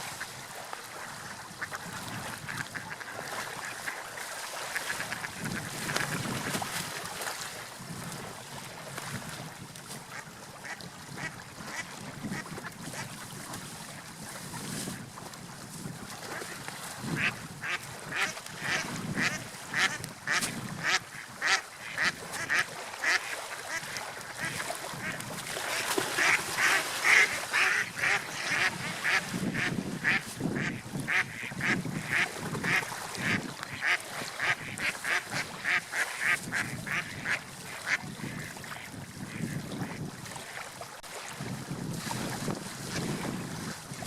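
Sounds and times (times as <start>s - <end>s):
water rushing: 0.0s - 13.9s, 16.1s - 44.0s.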